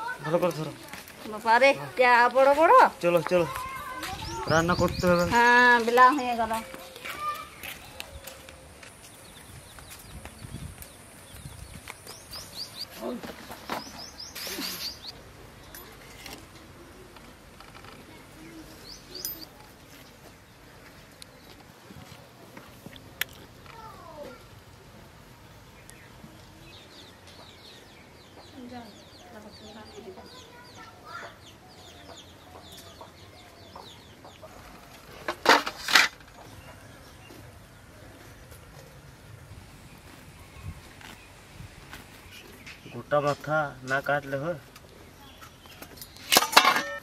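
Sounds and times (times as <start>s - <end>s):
birds chirping: 0.0s - 35.5s, 36.2s - 47.0s.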